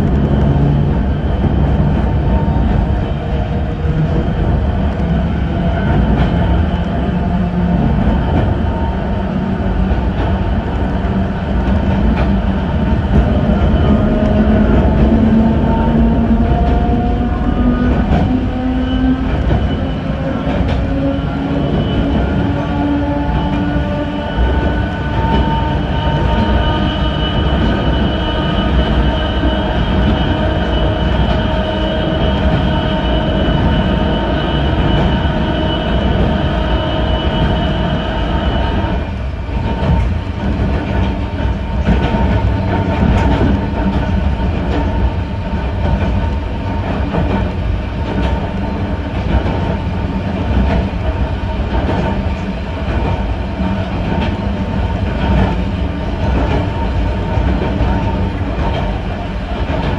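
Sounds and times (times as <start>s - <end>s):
electric train multi-tone whine: 0.0s - 59.9s
train wheels rumbling and clattering: 0.0s - 59.9s.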